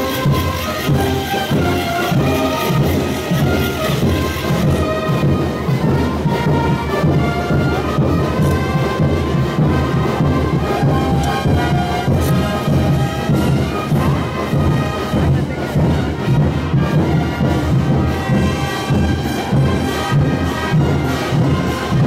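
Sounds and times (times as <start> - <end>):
brass notes: 0.0 - 22.0
pounding drum beat: 0.0 - 22.0.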